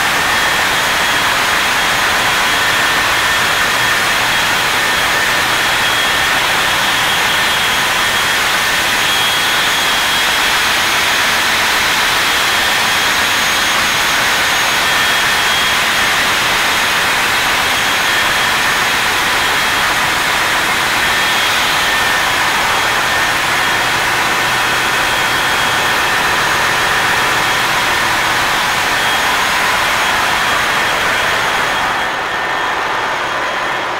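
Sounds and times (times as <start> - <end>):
faint steady whining tones: 0.0 - 33.9.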